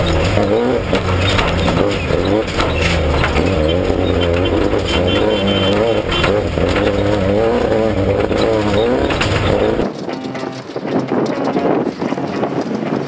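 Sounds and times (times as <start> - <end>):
vehicle engine revving: 0.0 - 11.3.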